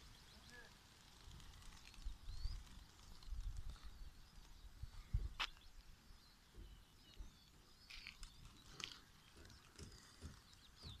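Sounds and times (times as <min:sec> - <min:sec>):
faint birdsong chirps: 0:00.0 - 0:11.0.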